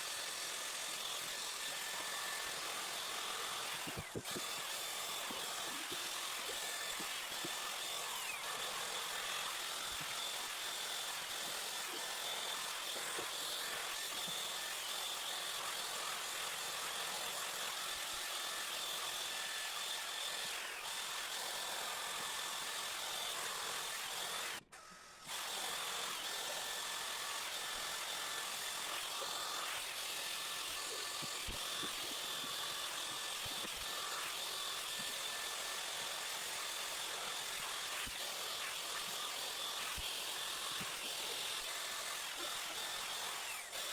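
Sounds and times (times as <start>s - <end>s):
hair dryer blowing air: 0.0s - 43.9s.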